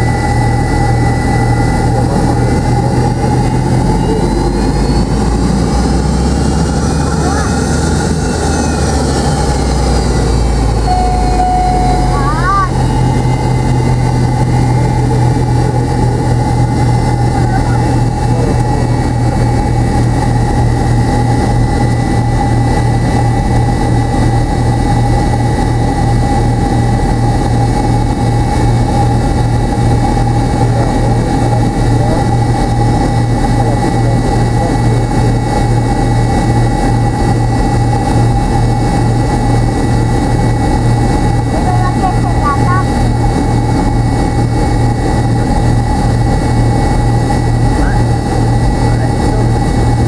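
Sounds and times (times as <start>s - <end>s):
jet engines droning in cabin: 0.0s - 50.0s.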